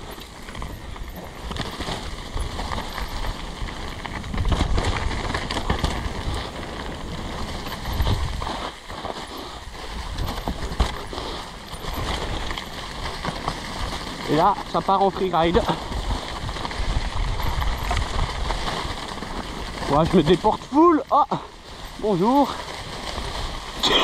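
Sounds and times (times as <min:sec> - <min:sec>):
bike rattling over bumps: 0:00.0 - 0:24.0
bike tyres rolling over leaves: 0:00.0 - 0:24.0
wind rumbling on microphone: 0:00.0 - 0:24.0.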